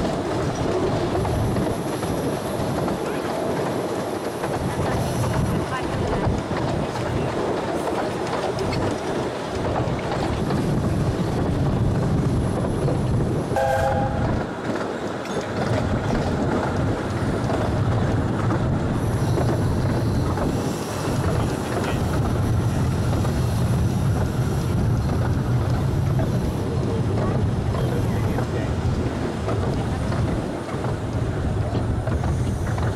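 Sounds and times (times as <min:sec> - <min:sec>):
train wheels on rail: 0:00.0 - 0:32.9.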